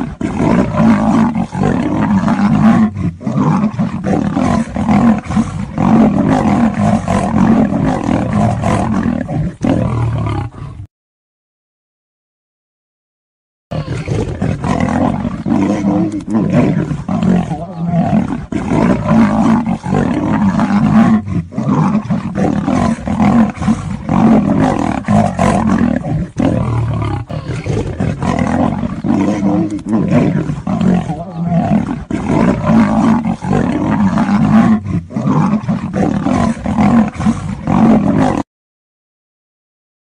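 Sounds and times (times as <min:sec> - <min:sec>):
big cats roaring and snarling: 0:00.0 - 0:10.9, 0:13.7 - 0:38.5.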